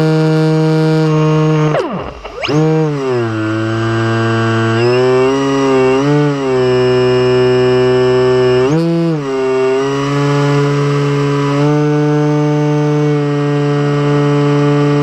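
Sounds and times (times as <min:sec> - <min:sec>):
electric motor and propeller whining: 0:00.0 - 0:15.0.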